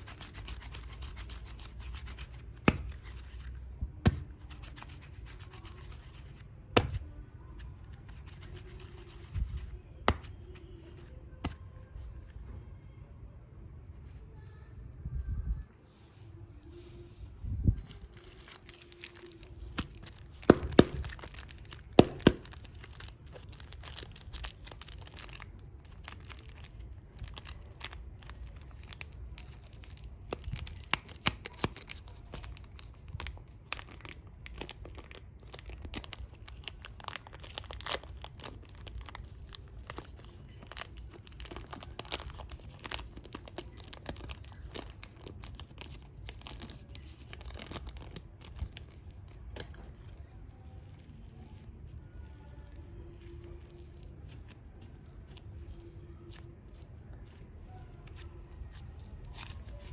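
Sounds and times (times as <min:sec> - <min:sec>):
plastic packaging crinkling: 0:00.0 - 0:11.2, 0:17.8 - 0:59.9.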